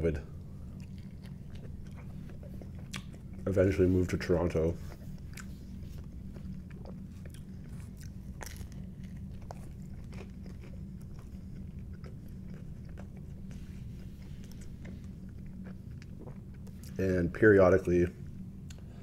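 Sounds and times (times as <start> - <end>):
low hum: 0.0 - 19.0
crunching pizza crust: 0.6 - 17.2.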